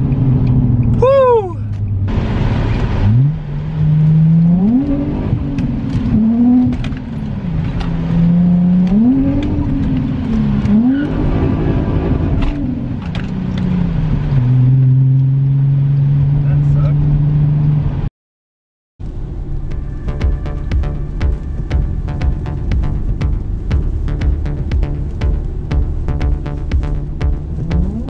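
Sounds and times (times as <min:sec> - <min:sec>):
car engine revving: 0:00.0 - 0:18.1, 0:19.0 - 0:28.0.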